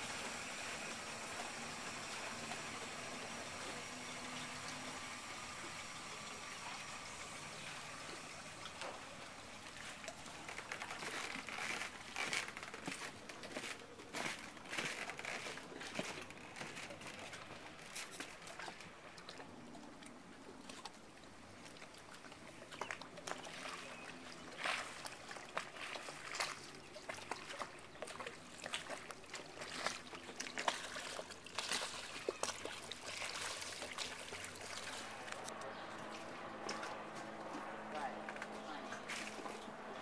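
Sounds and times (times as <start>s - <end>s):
water lapping against a boat: 0.0s - 40.0s.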